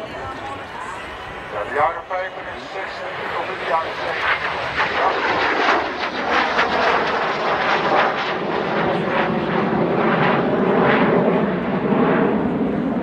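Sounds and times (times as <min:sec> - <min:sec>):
jet flying past overhead: 0:00.0 - 0:13.0.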